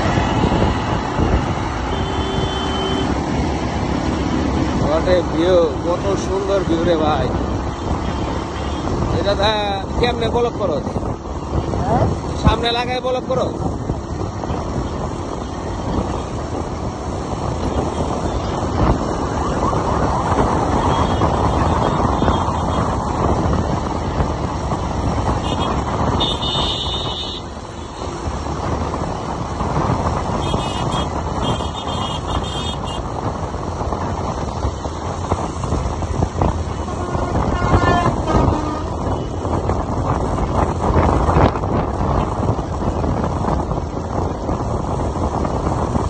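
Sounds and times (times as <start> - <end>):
motorcycle engine and road noise: 0.0 - 46.0
wind rush: 0.0 - 46.0.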